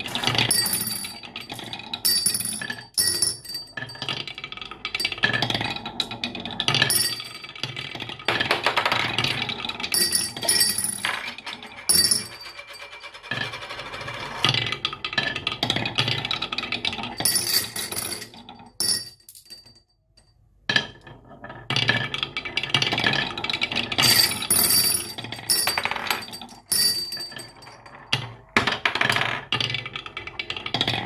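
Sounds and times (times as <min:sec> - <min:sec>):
marbles rolling and clattering on tracks: 0:00.0 - 0:19.0, 0:20.7 - 0:31.0.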